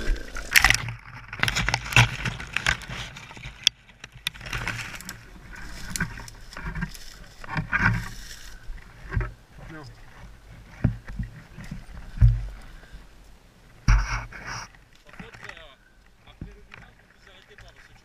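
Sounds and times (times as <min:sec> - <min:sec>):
knocks and scrapes: 0:00.0 - 0:12.7, 0:13.7 - 0:15.7
branches rustling: 0:00.0 - 0:18.0.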